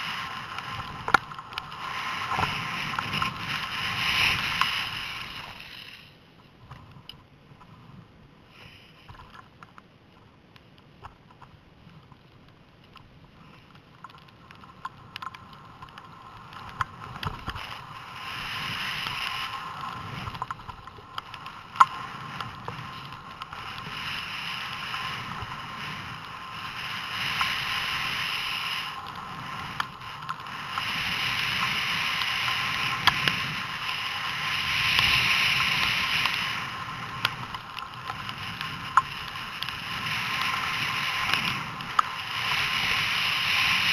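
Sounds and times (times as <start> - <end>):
skis hissing and scraping on snow: 0.0 - 6.2, 8.4 - 9.2, 14.6 - 43.9.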